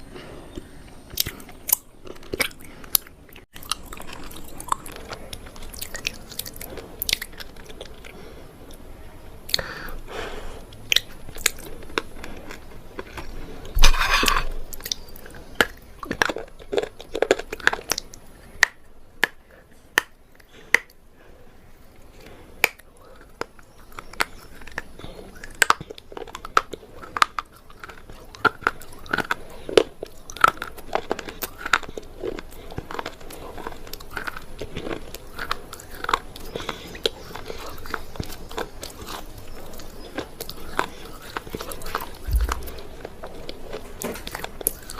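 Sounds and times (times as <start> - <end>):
person crunching hard food: 0.4 - 8.8, 10.6 - 20.9, 22.2 - 44.9.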